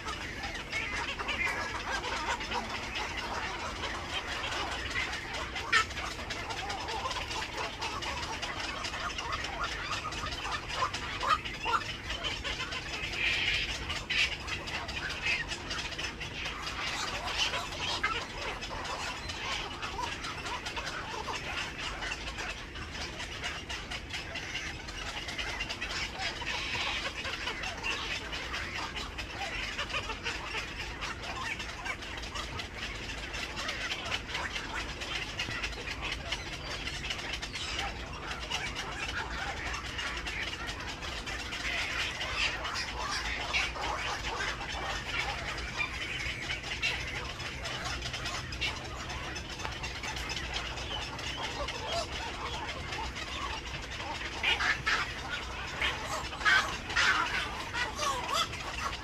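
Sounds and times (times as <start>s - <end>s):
many birds chattering: 0.0s - 59.0s.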